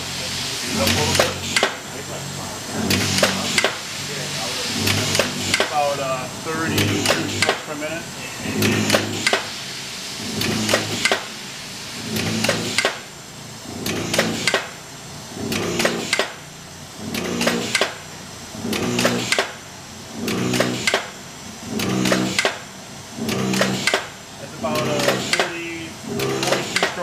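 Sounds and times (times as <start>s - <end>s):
stamping press cycling: 0.0s - 27.0s.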